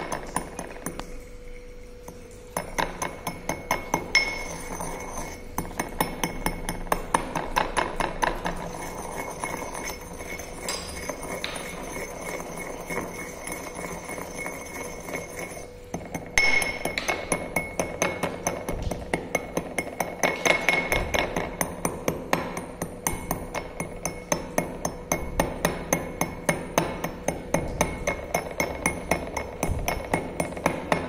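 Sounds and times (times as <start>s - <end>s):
pestle grinding in porcelain mortar: 0.0s - 31.0s.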